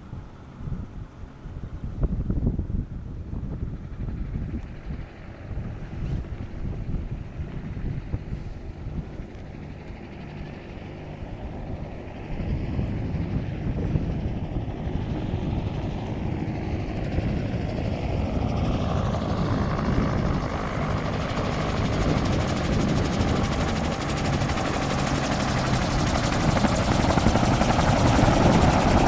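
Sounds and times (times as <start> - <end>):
gyrocopter rotor and engine: 0.0 - 29.0.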